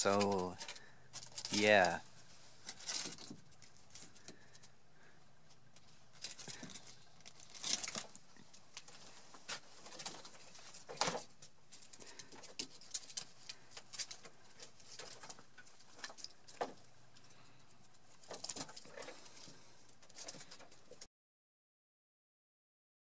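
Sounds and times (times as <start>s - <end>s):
rabbits scuffling: 0.0s - 21.1s.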